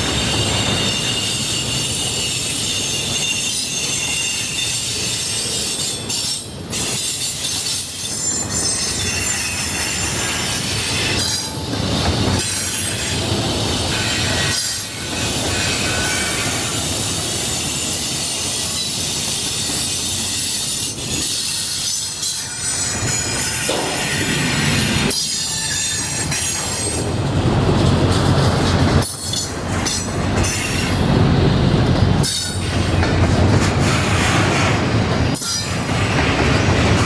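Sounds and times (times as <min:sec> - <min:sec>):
freight train rumbling: 0:00.0 - 0:37.0
train wheels squealing on rails: 0:00.0 - 0:37.0.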